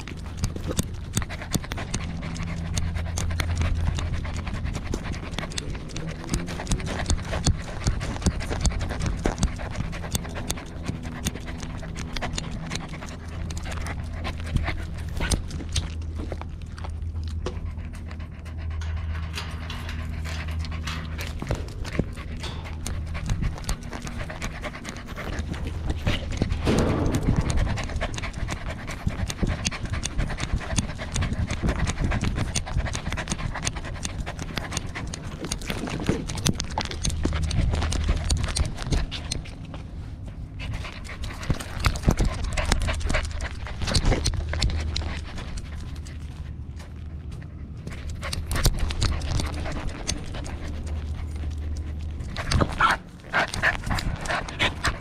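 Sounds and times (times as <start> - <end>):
dog panting: 0.0 - 55.0.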